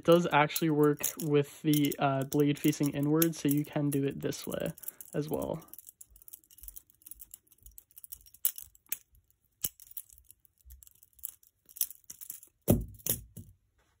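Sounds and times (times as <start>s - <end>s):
butterfly knife clicks and rattles: 0.1s - 13.2s.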